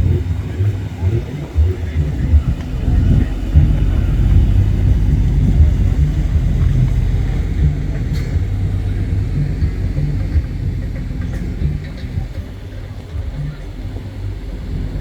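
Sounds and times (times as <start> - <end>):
car engine low rumble: 0.0 - 15.0
wind buffeting microphone: 0.0 - 15.0.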